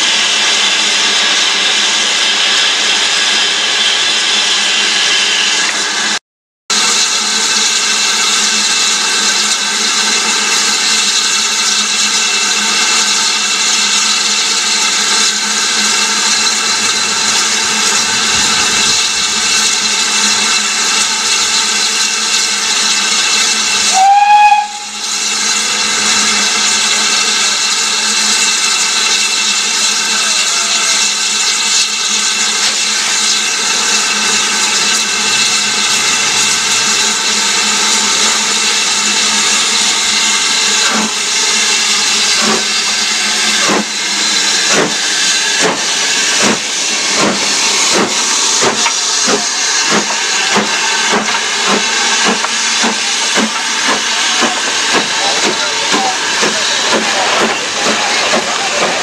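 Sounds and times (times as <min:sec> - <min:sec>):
steam locomotive hissing: 0:00.0 - 0:59.0
steam burst with falling tone: 0:06.8 - 0:59.0.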